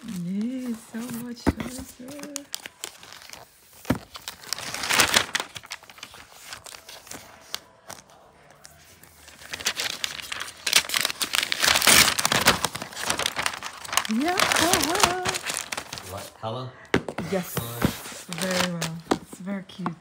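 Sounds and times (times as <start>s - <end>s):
paper wrap crinkling: 0.0s - 16.4s, 17.4s - 19.5s.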